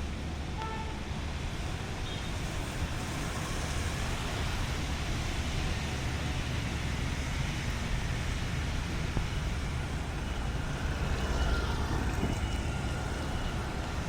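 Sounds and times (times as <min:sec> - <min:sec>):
road traffic rumble and hiss: 0:00.0 - 0:14.0.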